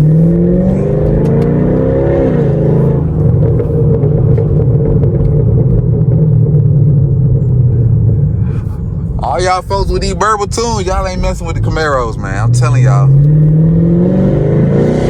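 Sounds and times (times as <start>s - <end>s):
loud car exhaust accelerating: 0.0s - 15.0s.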